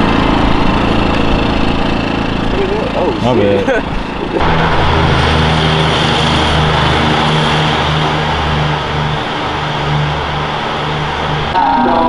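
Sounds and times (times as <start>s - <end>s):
truck diesel engine passing: 0.0s - 12.0s.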